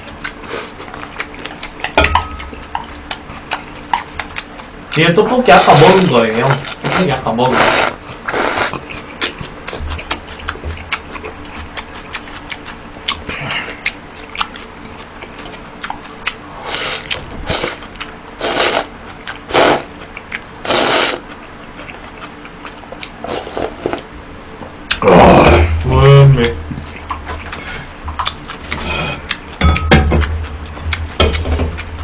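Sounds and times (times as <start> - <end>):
chewing and swallowing: 0.0 - 5.0, 7.9 - 24.1, 26.4 - 32.0.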